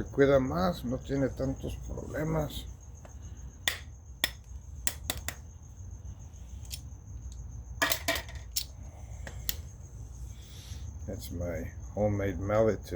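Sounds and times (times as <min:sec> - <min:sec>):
cricket trill: 0:00.0 - 0:12.9.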